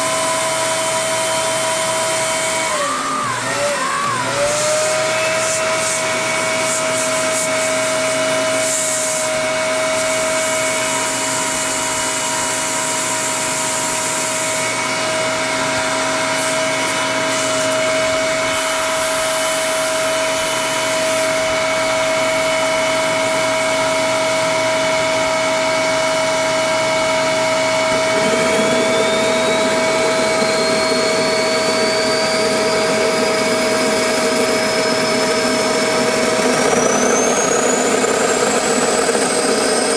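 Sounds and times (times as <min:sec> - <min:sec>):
jet engine whine: 0:00.0 - 0:39.9.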